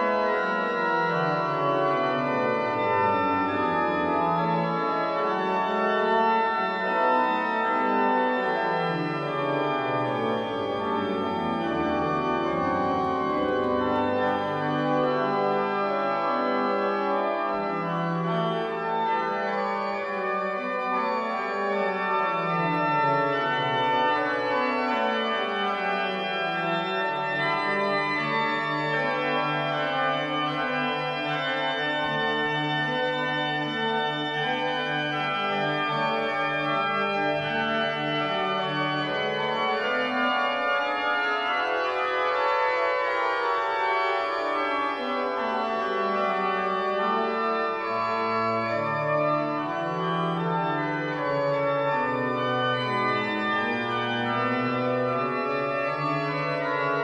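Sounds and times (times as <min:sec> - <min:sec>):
church pipe organ playing: 0:00.0 - 0:57.0.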